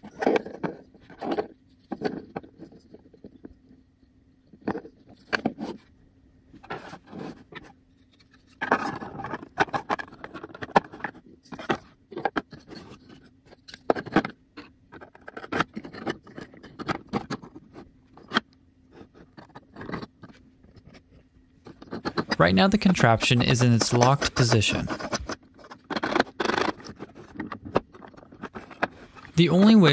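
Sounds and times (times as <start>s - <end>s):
plastic parts clicking and scraping: 0.0s - 3.8s, 4.4s - 5.9s, 6.5s - 29.9s.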